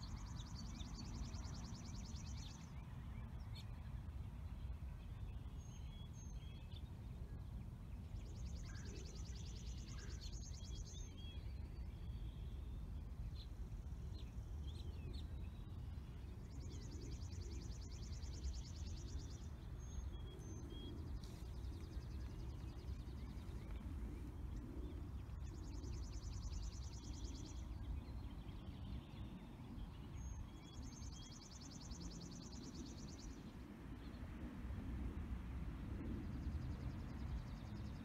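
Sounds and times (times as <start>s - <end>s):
songbirds singing: 0.0s - 38.0s
steady low rumble: 2.7s - 38.0s.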